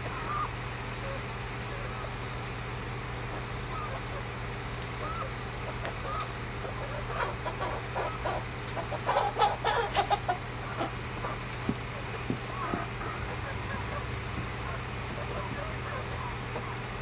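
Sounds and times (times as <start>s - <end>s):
chickens clucking softly: 3.2s - 17.0s.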